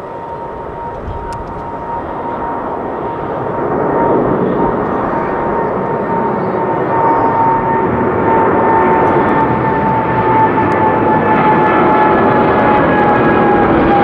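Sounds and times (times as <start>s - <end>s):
jet engine roar with whine: 0.0s - 14.0s.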